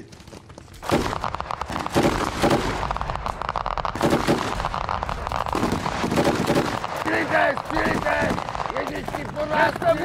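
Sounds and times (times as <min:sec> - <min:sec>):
machine gun firing: 0:00.8 - 0:10.0.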